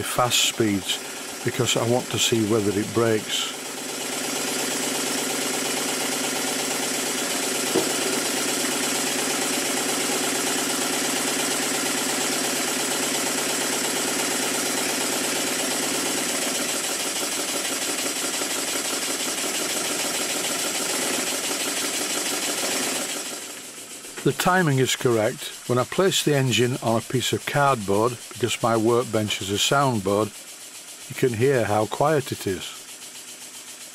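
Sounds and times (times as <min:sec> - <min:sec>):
model steam engine running fast: 0:00.0 - 0:33.9.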